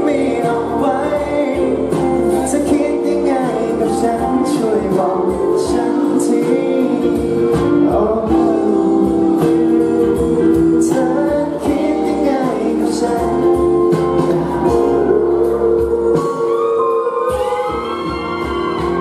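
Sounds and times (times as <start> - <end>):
man singing into a microphone: 0.0 - 18.0
pop backing track: 0.0 - 19.0.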